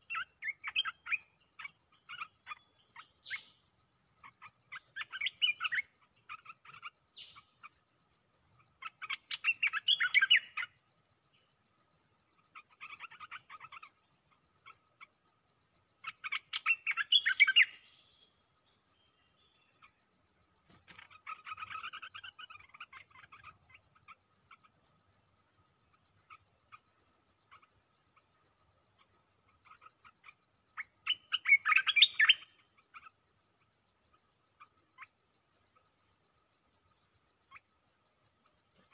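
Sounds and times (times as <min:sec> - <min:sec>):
bulbuls chattering song: 0:00.0 - 0:36.1, 0:36.7 - 0:38.9
insect pulsing trill: 0:00.0 - 0:38.9.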